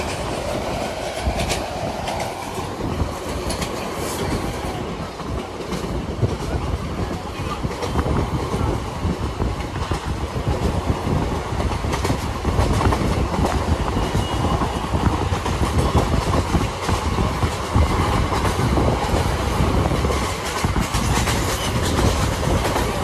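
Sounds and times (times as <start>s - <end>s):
clickety-clack of rail joints: 0.0s - 23.0s
train wheels rumbling on rails: 0.0s - 23.0s.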